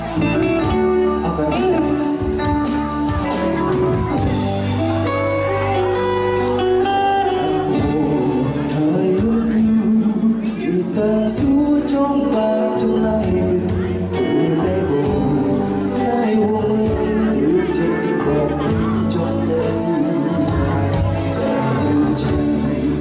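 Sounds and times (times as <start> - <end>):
band music with steady beat: 0.0 - 23.0
person singing: 0.0 - 23.0.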